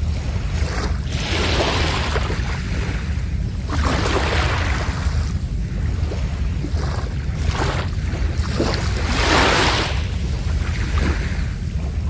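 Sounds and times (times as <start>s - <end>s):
low rumble: 0.0s - 12.0s
sea waves washing ashore: 0.0s - 12.0s.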